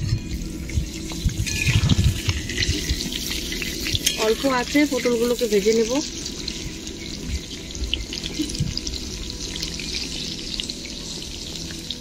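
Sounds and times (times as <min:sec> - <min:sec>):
vegetables sizzling in hot oil: 0:00.0 - 0:12.0
oil crackling and spitting: 0:00.3 - 0:12.0.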